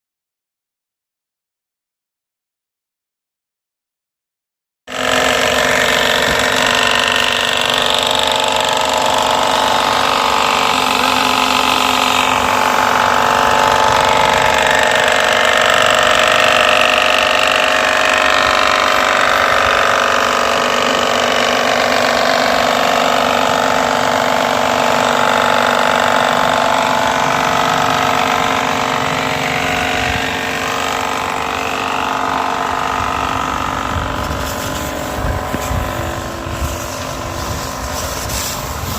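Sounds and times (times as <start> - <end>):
pressure washer pump droning: 4.9 - 38.9.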